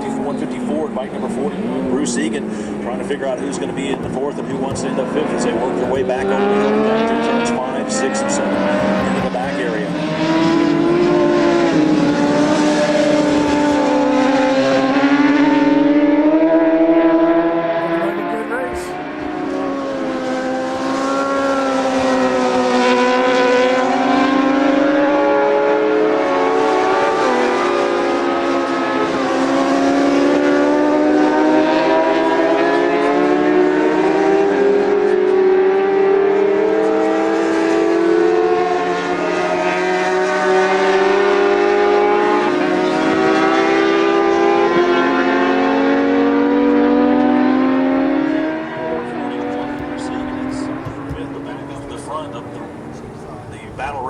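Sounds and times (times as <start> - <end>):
racing motorcycle engines revving: 0.0 - 54.0.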